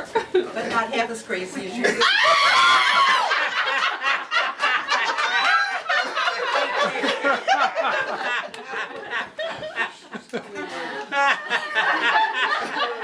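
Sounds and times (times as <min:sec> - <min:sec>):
women laughing: 0:01.8 - 0:13.0.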